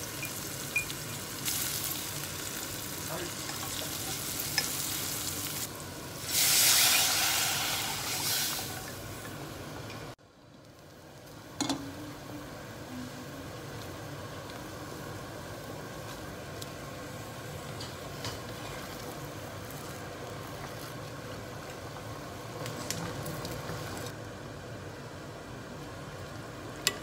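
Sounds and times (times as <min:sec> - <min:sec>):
broth boiling: 0:00.0 - 0:27.0.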